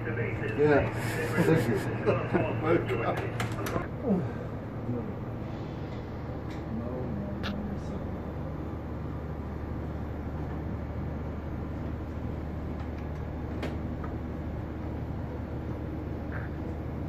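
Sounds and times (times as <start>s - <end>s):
ship machinery hum: 0.0s - 17.0s.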